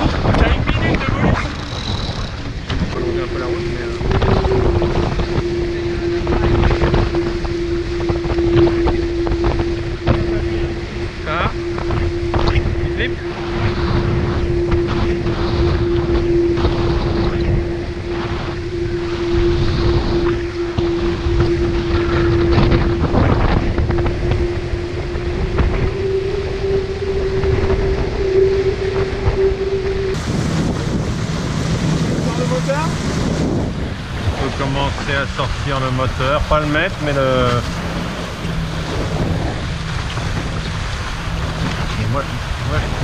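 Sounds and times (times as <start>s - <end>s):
rushing water: 0.0s - 43.0s
steady humming tone: 0.0s - 43.0s
wind buffeting microphone: 0.0s - 43.0s.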